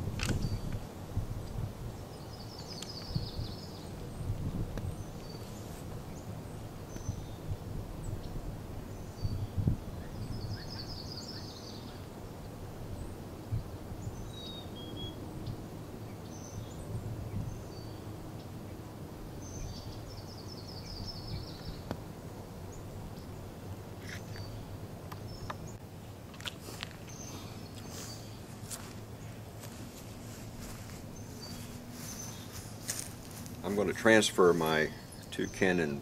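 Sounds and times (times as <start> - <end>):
low outdoor rumble: 0.0 - 36.0
small birds chirping: 0.2 - 22.0, 22.6 - 36.0.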